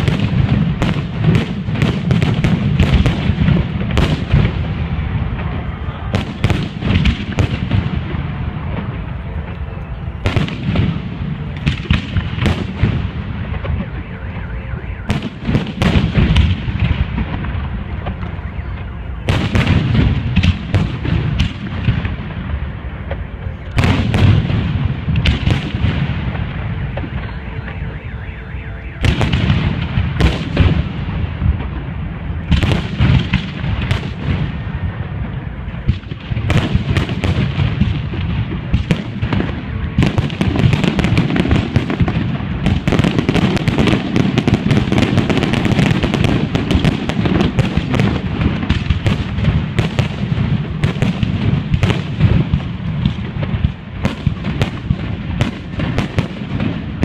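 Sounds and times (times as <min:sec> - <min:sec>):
sharp firework cracks: 0:00.0 - 0:09.2, 0:15.1 - 0:18.5, 0:19.3 - 0:27.2, 0:29.0 - 0:34.8, 0:35.8 - 0:57.0
fireworks booming: 0:00.0 - 0:57.0.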